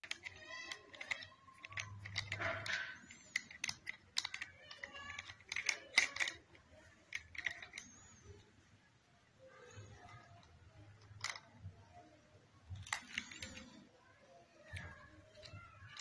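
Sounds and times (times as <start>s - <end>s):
plastic toy car clicking: 0.0s - 8.4s, 9.6s - 12.0s, 12.7s - 13.9s, 14.6s - 16.0s.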